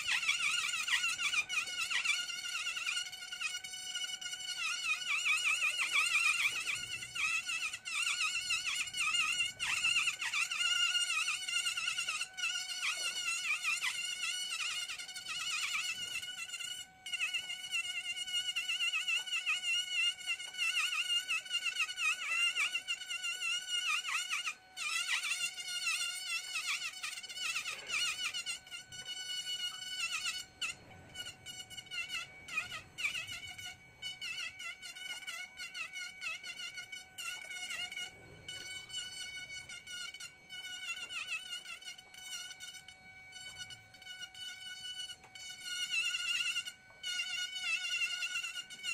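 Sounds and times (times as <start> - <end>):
rotary tool grinding wood: 0.0 - 48.9.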